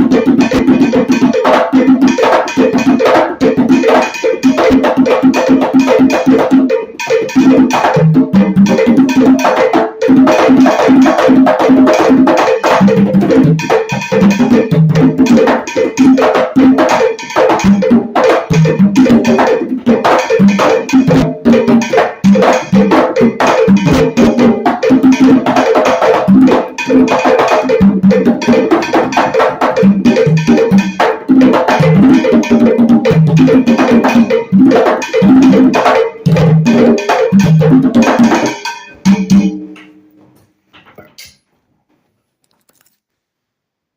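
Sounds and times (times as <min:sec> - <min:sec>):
hand drums playing: 0:00.0 - 0:40.0.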